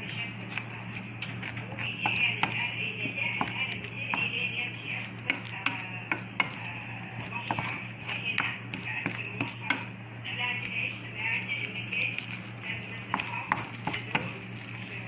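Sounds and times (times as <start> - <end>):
wooden spoon scraping a pan: 0.0 - 9.9, 10.5 - 15.0
steady low hum: 0.0 - 15.0.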